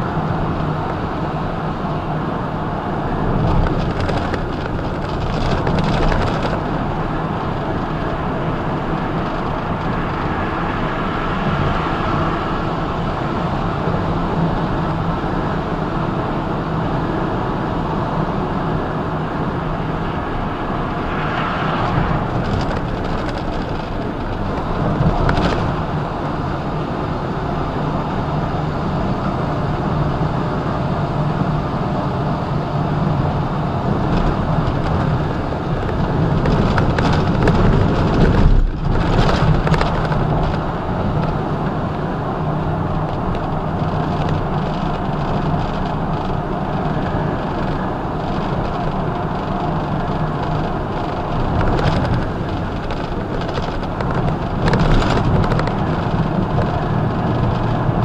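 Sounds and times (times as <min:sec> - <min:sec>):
truck engine drone: 0:00.0 - 0:58.0
tyre and road noise: 0:00.0 - 0:58.0.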